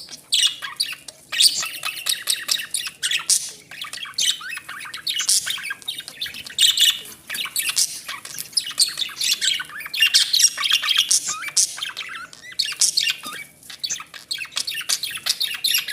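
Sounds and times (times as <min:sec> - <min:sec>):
budgerigars chattering: 0:00.0 - 0:15.9.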